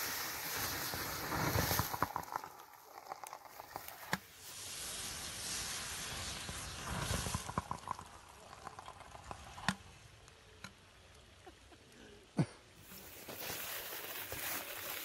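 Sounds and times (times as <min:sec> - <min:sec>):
thermite hissing: 0:00.0 - 0:10.5, 0:12.8 - 0:15.0
crackles and pops: 0:00.0 - 0:12.0, 0:12.8 - 0:15.0.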